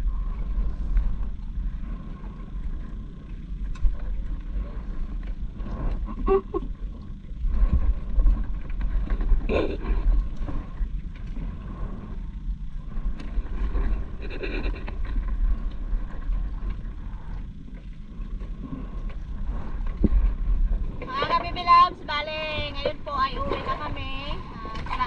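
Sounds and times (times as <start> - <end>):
low wind rumble on microphone: 0.0 - 25.0.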